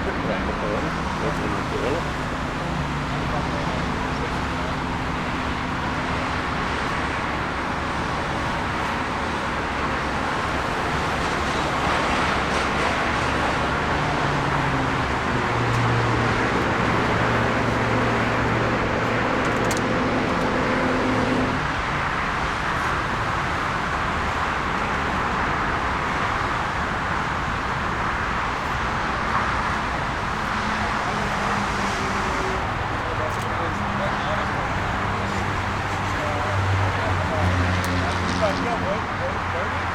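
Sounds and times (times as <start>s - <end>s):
jet engine rushing roar: 0.0s - 39.9s
low engine hum: 0.0s - 39.9s.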